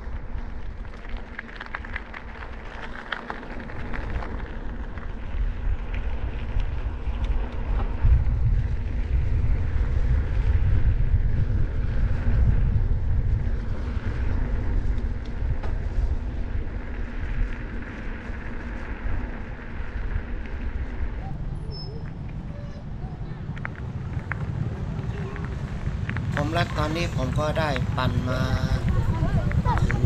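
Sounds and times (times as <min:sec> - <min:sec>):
tyre noise on asphalt: 0:00.0 - 0:30.0
wind buffeting microphone: 0:00.0 - 0:30.0.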